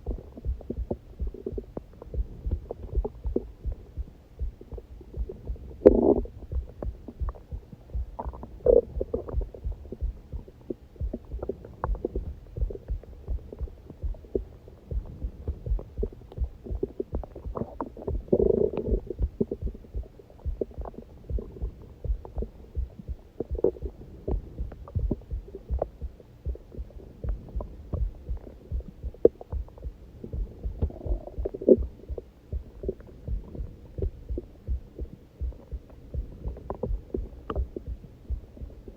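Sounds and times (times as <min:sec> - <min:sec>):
stomach growling: 0:00.0 - 0:38.7
heartbeat thumping: 0:00.0 - 0:38.9.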